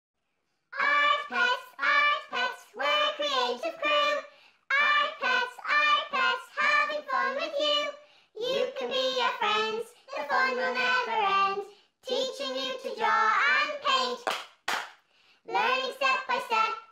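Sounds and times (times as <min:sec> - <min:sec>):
high child-like voice singing: 0:00.8 - 0:14.3, 0:15.5 - 0:16.9.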